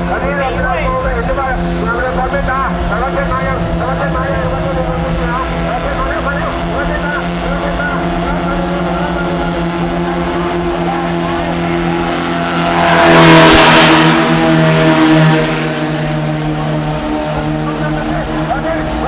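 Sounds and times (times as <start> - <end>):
boat passing with hiss: 0.0 - 19.0
racing boat engines droning: 0.0 - 19.0.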